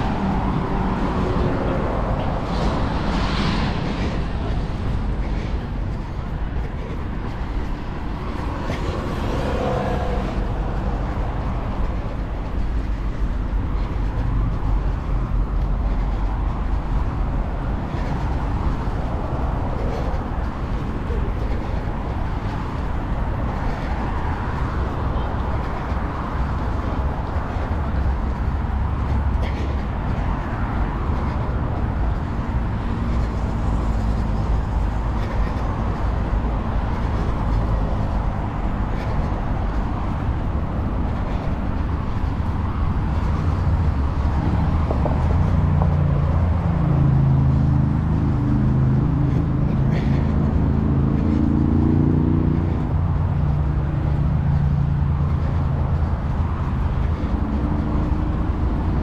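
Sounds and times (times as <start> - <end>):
passing cars: 0.0 - 59.0.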